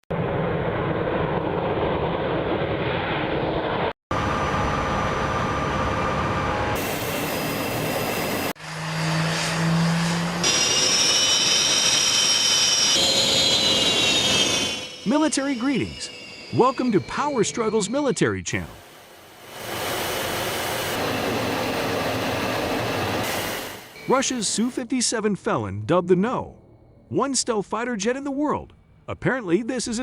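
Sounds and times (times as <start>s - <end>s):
high turbine whine: 0.1s - 29.6s
fighter jet engines roaring: 0.1s - 30.0s.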